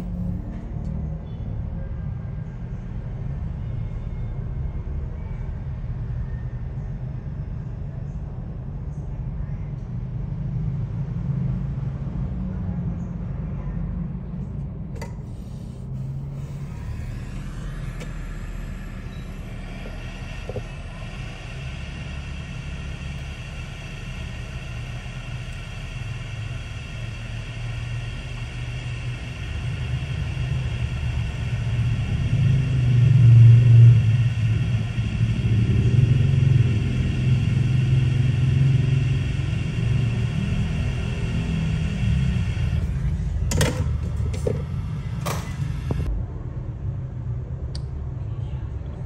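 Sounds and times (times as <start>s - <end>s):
machine hum with high whine: 0.0s - 49.0s.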